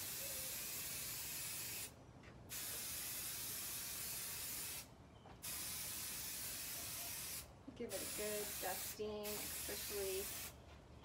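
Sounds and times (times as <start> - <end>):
aerosol can spraying: 0.0 - 1.9, 2.5 - 10.5.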